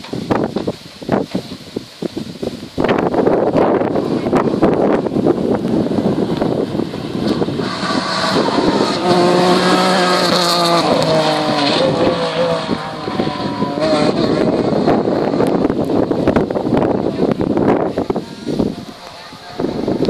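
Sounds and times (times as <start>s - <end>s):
wind noise on microphone: 0.0s - 20.0s
rally car engine passing: 3.5s - 20.0s.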